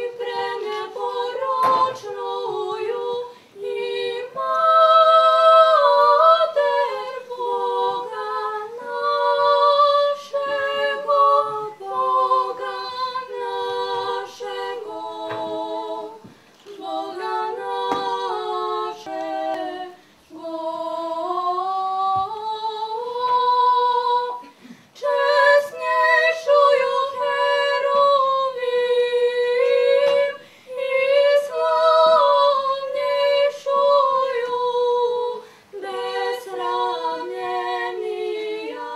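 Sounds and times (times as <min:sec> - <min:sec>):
women singing in harmony: 0:00.0 - 0:38.9.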